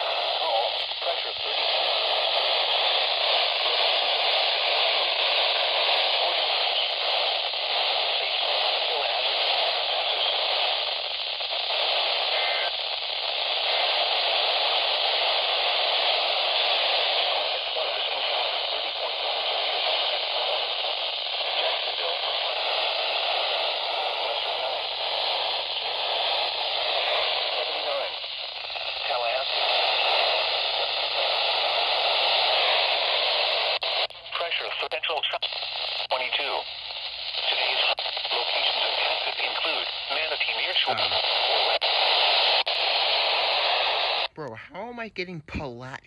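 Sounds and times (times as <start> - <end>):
radio static hissing: 0.0 - 45.8
faint broadcast voice: 0.0 - 46.0.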